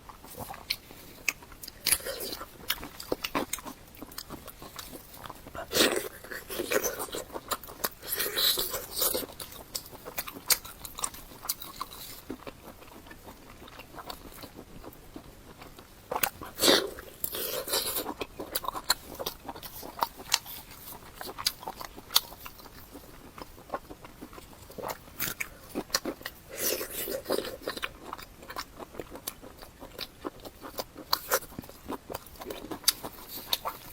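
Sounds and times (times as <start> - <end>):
chewing and biting food: 0.0 - 33.9.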